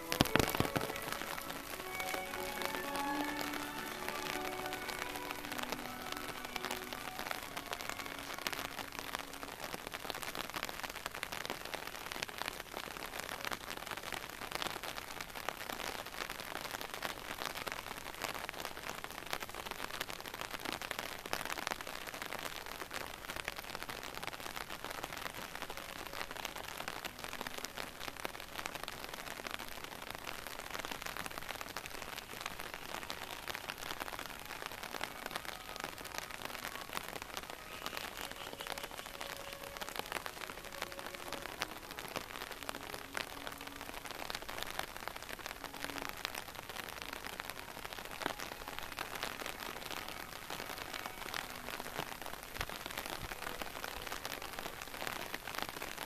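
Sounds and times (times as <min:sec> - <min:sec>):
faint music: 0:00.0 - 0:14.4, 0:21.6 - 0:56.0
rain on paved ground: 0:00.0 - 0:56.0.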